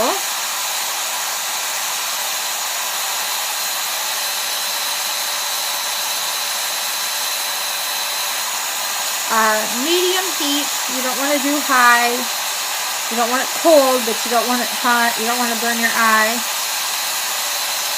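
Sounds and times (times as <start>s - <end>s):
blow dryer running: 0.0s - 17.9s.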